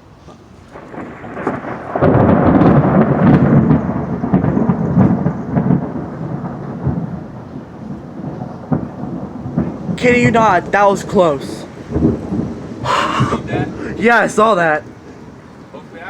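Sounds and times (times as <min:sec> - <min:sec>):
thunder crash and rumble: 0:00.7 - 0:16.0.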